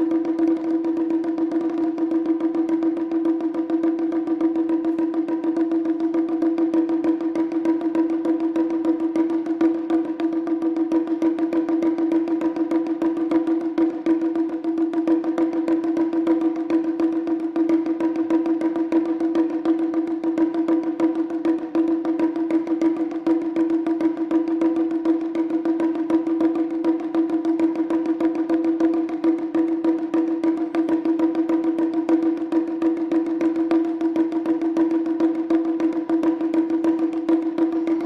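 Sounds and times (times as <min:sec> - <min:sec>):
fast drumming: 0:00.0 - 0:38.0.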